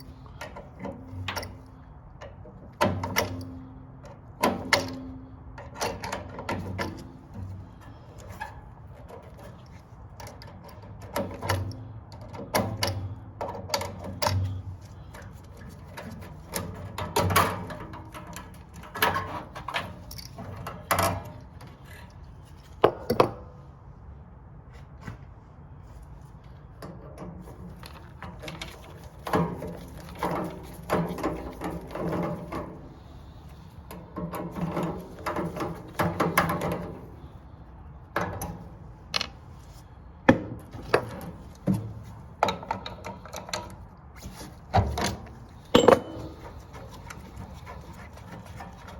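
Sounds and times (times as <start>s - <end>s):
metal tools clanking and scraping: 0.0s - 23.5s, 26.8s - 37.3s, 40.6s - 48.9s.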